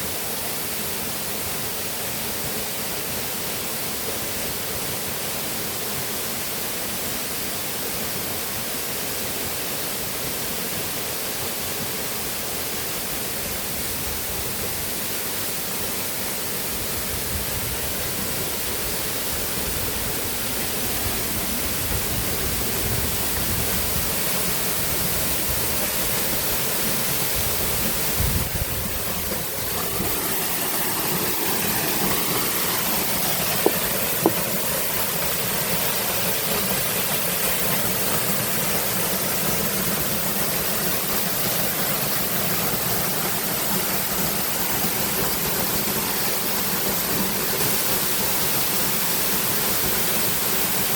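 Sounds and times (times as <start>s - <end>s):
river water rushing: 7.6s - 50.9s.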